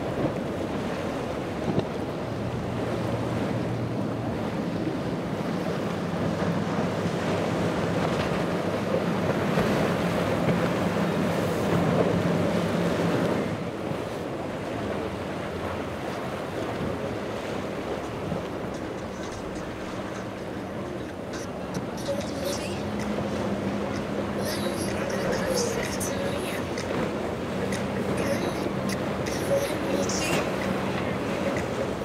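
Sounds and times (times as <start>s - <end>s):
boat engines droning: 0.0s - 32.0s.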